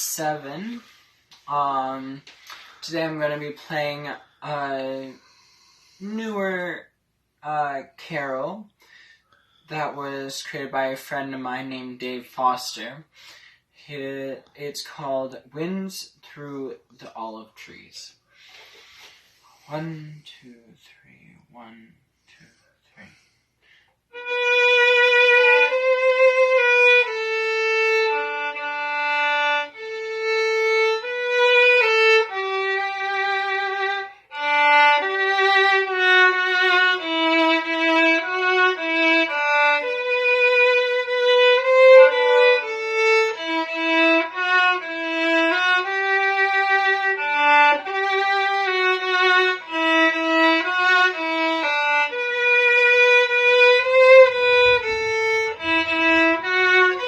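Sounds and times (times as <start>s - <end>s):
solo fiddle playing slow tune: 0.0s - 13.9s, 21.6s - 57.0s.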